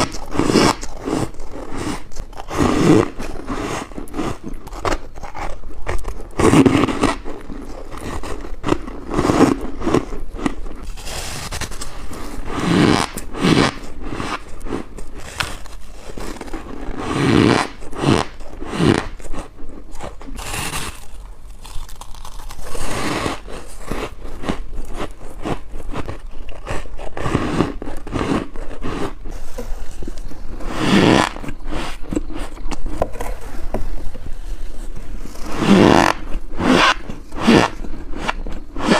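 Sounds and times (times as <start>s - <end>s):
crunchy biting and chewing: 0.0s - 38.9s.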